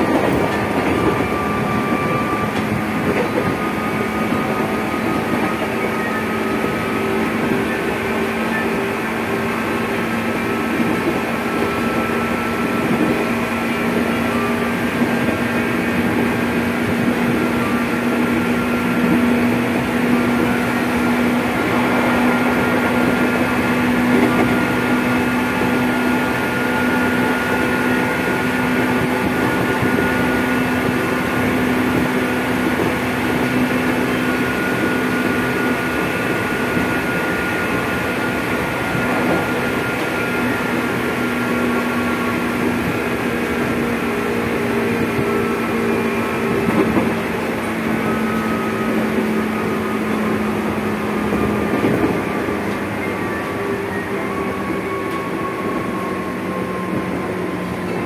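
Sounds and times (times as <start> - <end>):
train motors humming: 0.0 - 58.0
wheels rumbling on rail: 0.0 - 58.0.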